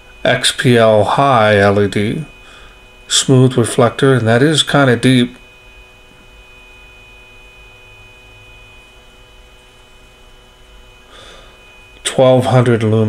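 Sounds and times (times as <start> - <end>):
electrical mains hum: 0.0 - 13.0
faint high whine: 0.0 - 13.0.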